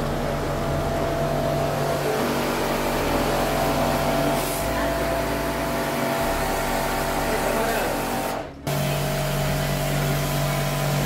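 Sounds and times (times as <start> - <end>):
pressure washer motor hum: 0.0 - 11.0.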